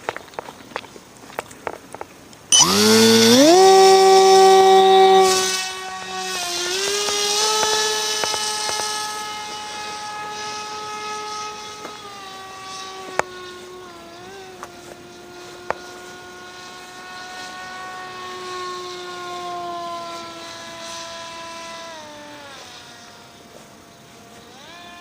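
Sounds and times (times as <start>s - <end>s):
model airplane motor whine: 2.5s - 25.0s.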